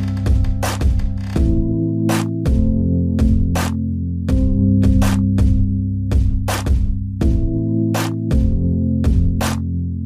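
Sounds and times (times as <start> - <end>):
low synth chords: 0.0 - 10.0.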